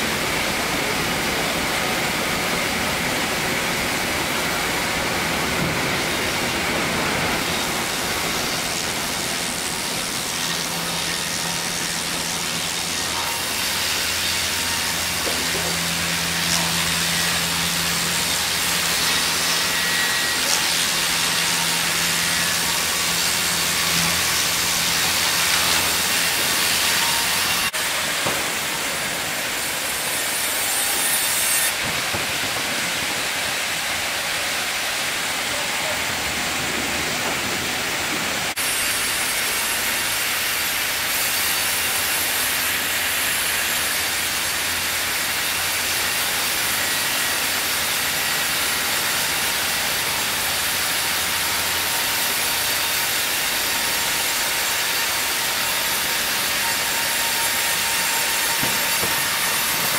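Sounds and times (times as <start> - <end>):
sawmill machine hissing: 0.0 - 59.9.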